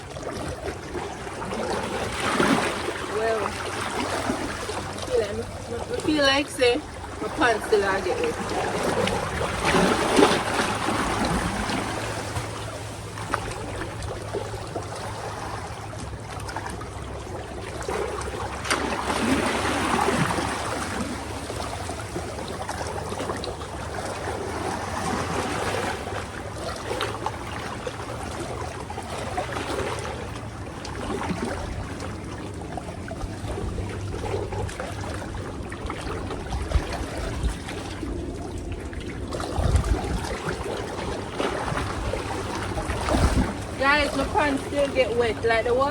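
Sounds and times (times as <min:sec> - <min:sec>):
water sloshing around wading legs: 0:00.0 - 0:45.9.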